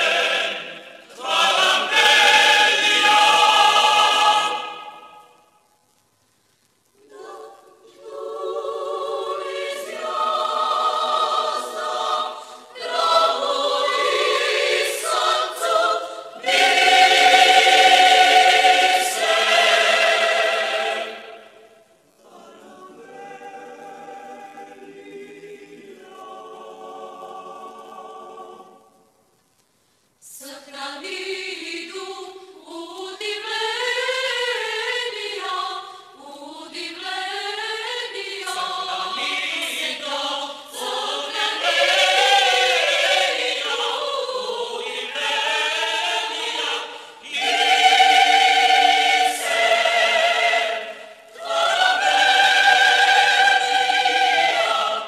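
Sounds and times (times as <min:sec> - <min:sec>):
choir singing unaccompanied: 0:00.0 - 0:05.4, 0:07.0 - 0:29.1, 0:30.2 - 0:55.0.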